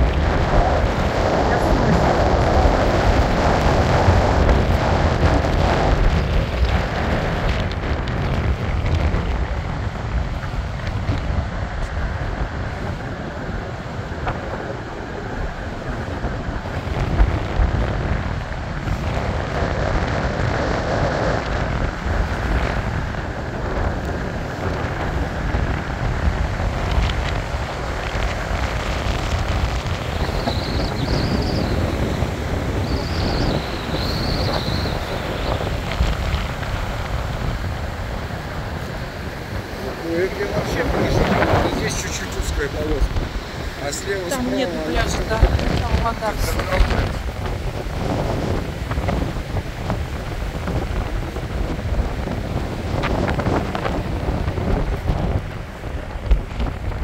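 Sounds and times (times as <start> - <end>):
surf breaking on shore: 0.0 - 57.0
wind buffeting microphone: 0.0 - 57.0.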